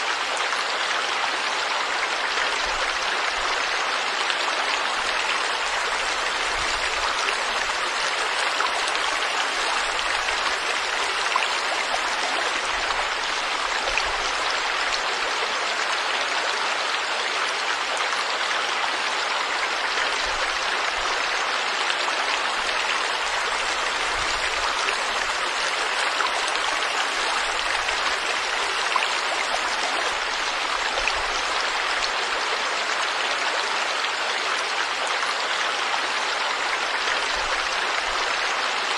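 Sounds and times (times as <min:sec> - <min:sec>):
stream of water rushing: 0:00.0 - 0:38.9.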